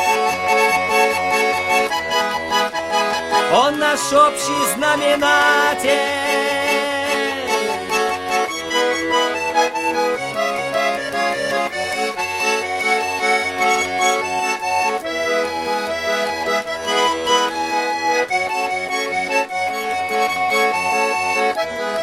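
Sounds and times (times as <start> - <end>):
accordion playing melody: 0.0 - 22.0.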